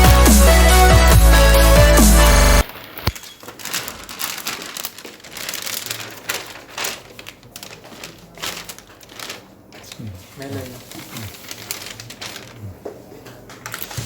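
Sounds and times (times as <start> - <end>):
rustling and crinkling: 2.6 - 14.0.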